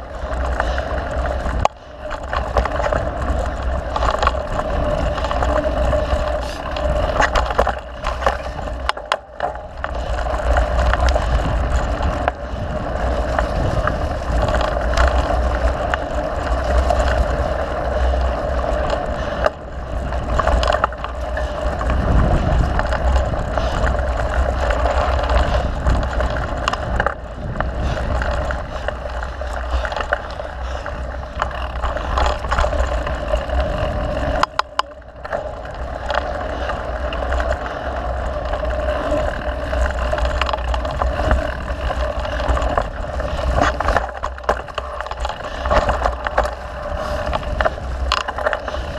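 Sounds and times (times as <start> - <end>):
bike clicks and rattles: 0.0 - 48.9
wind buffeting microphone: 0.0 - 48.9.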